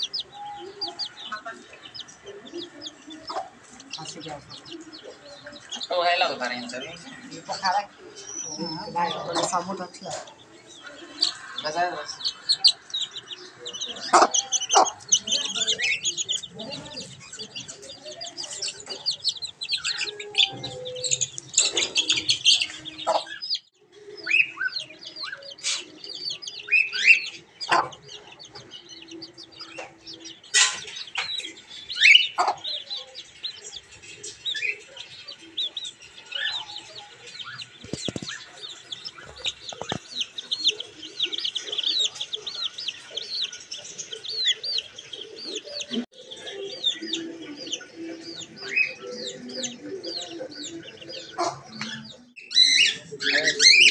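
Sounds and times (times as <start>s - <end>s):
chicks peeping: 0.0s - 53.9s
hen clucking: 0.0s - 53.9s.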